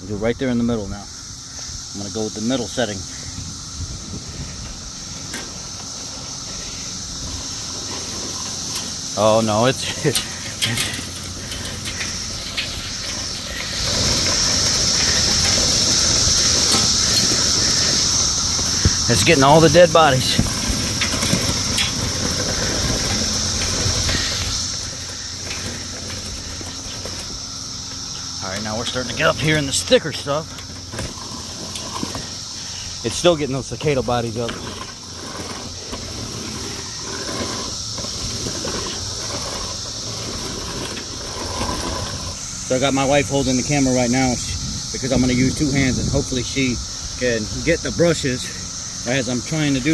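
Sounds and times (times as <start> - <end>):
cicada chorus: 0.0 - 49.9
lawn sweeper brushes rattling: 0.6 - 49.9.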